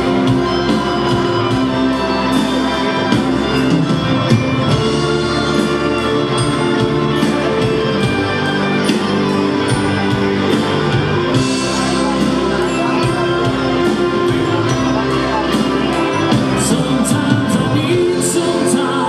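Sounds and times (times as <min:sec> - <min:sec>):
rock band and wind band playing: 0:00.0 - 0:19.0
steady drum beat: 0:00.0 - 0:19.0.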